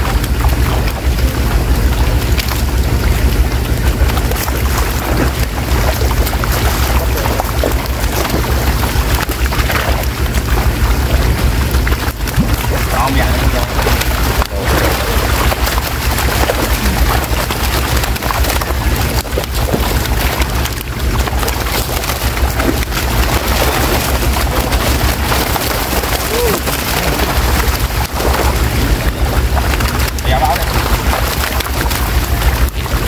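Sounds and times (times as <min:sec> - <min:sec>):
fish thrashing and splashing: 0:00.0 - 0:33.0
steady low rumble: 0:00.0 - 0:33.0.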